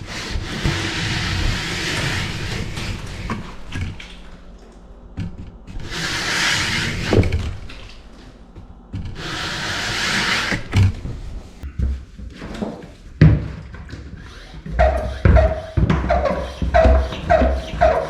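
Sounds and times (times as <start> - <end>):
scraper blade scraping ceiling: 0.0 - 18.0.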